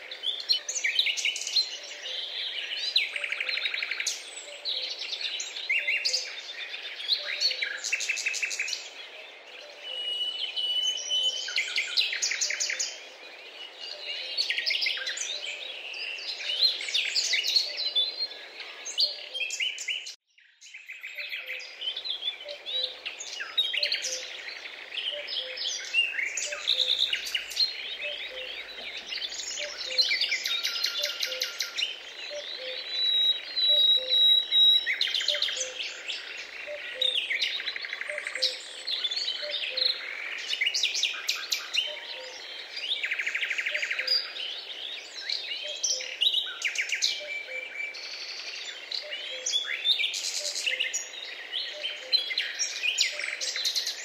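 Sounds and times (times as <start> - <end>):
birds chirping and singing: 0.0 - 54.0.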